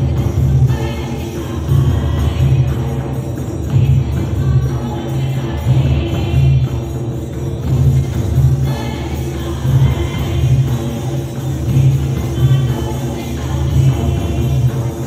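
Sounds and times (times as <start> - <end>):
women singing a hymn: 0.0 - 6.8, 8.6 - 15.0
hand drums beating: 0.0 - 15.0.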